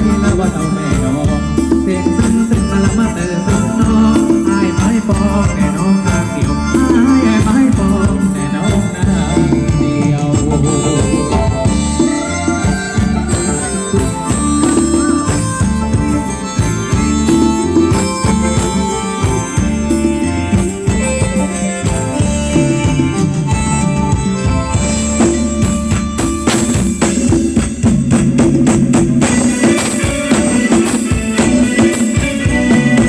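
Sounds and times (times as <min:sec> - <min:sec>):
folk dance music live band: 0:00.0 - 0:33.0.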